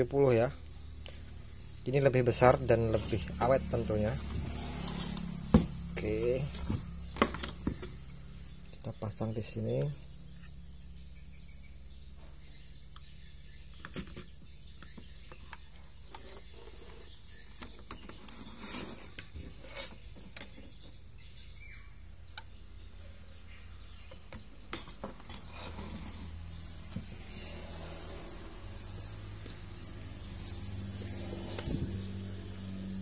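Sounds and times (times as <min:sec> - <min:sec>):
steady low hum: 0:00.0 - 0:17.7, 0:19.2 - 0:33.0.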